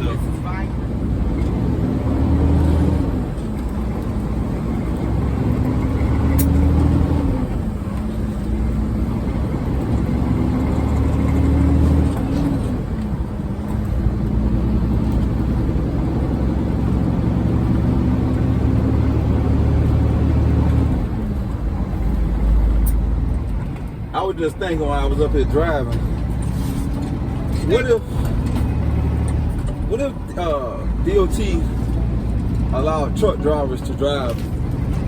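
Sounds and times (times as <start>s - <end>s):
road rumble: 0.0s - 35.0s
truck diesel engine running: 0.0s - 35.0s.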